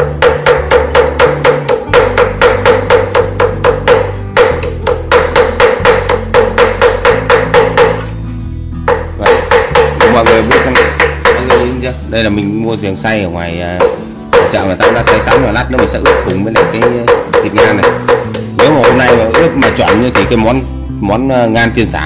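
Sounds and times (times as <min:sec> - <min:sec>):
cleaver chopping on board: 0:00.0 - 0:08.2, 0:08.9 - 0:11.8, 0:13.8 - 0:20.4.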